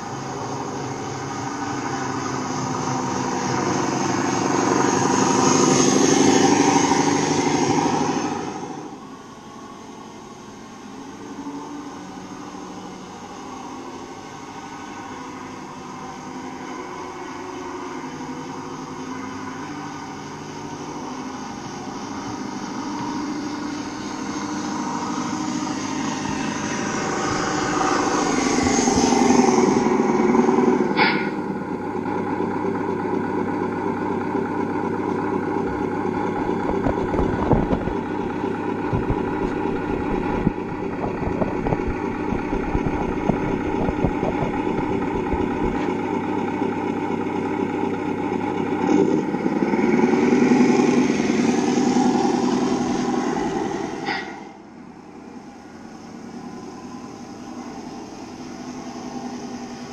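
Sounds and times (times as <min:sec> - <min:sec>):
model truck engine running: 0:00.0 - 0:59.9.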